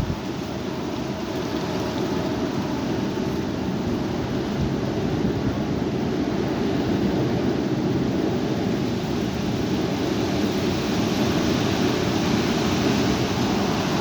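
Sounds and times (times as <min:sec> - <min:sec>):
high wind blowing: 0:00.0 - 0:14.0.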